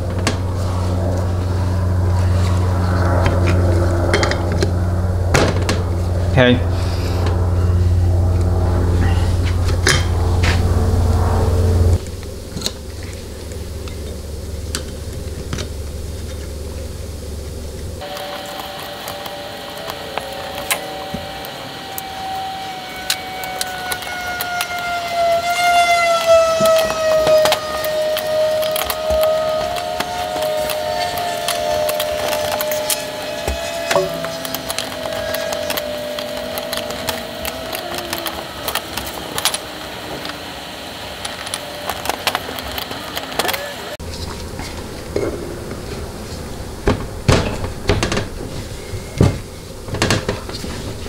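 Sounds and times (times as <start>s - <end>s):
faint steady hum: 0.0s - 51.0s
steady whine: 0.0s - 51.0s.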